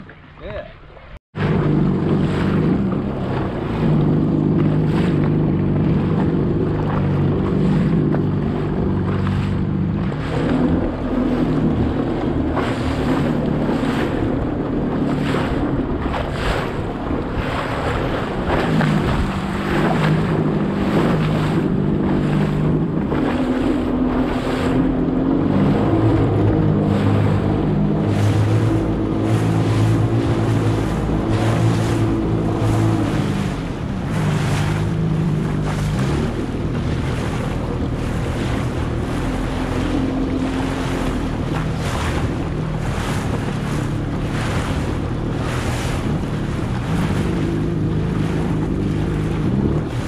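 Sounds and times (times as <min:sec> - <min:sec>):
jet ski engine drone: 0:00.0 - 0:50.0
water slapping against hull: 0:00.0 - 0:50.0
wind buffeting microphone: 0:01.3 - 0:50.0.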